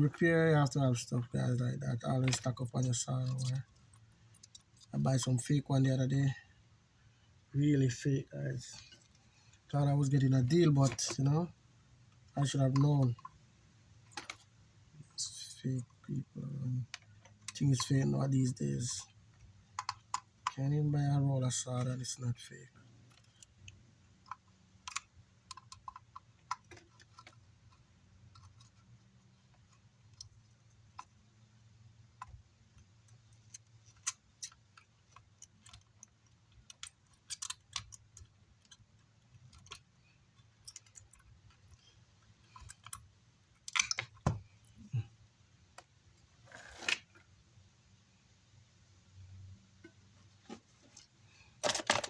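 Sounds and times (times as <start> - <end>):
faint low hum: 0.0 - 52.0.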